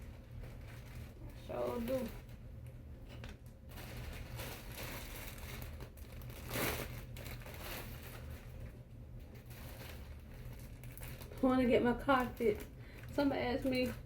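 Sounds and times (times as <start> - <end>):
rustling and crinkling: 0.0 - 14.0
steady low hum: 0.0 - 14.0.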